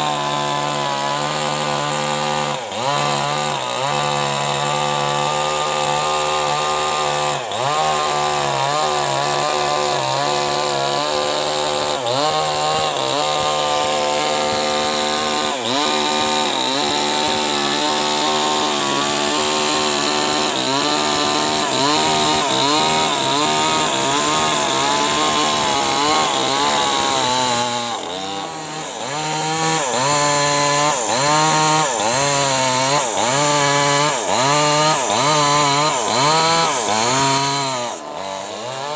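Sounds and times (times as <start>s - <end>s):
chainsaw ripping a log: 0.0s - 38.9s.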